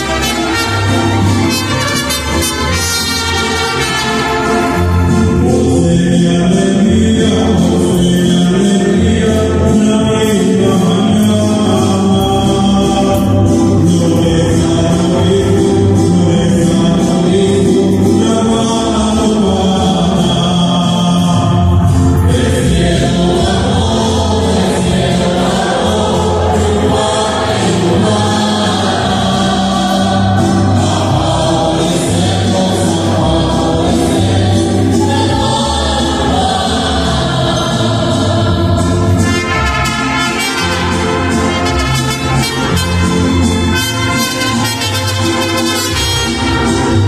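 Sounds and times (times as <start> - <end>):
bass line: 0.0 - 47.0
musical accompaniment: 0.0 - 47.0
voices singing held notes: 0.0 - 47.0.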